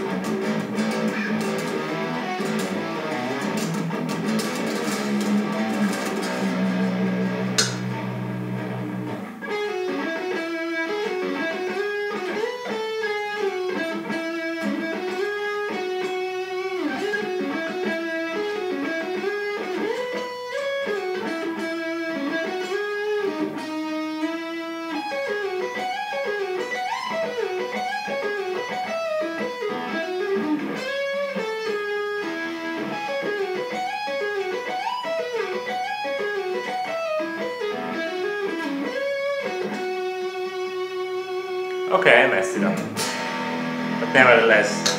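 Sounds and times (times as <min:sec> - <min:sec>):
electric guitar through amp: 0:00.0 - 0:44.9.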